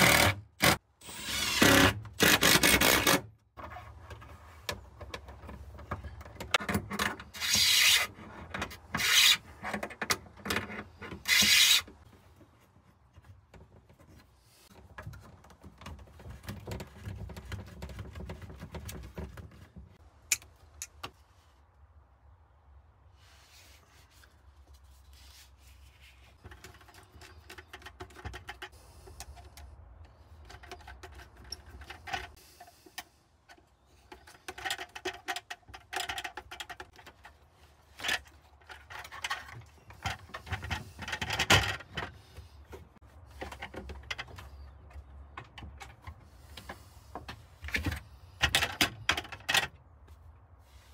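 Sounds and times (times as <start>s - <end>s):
plastic parts clicking and scraping: 0.0s - 21.2s, 25.7s - 50.0s.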